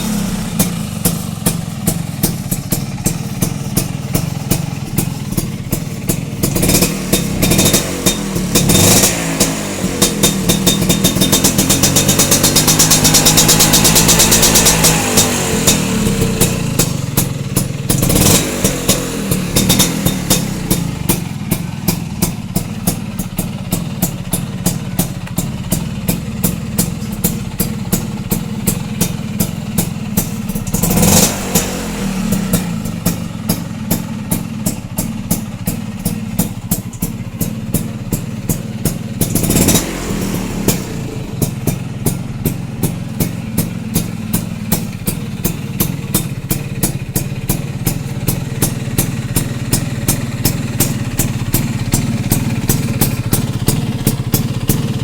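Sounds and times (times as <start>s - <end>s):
scooter engine idling and revving: 0.0s - 55.0s.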